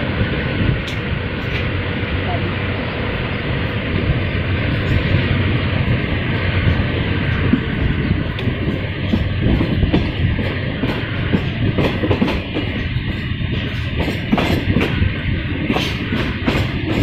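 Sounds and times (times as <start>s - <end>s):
train rumble: 0.0s - 17.0s
wheels clicking over rail joints: 0.7s - 1.9s, 3.7s - 17.0s.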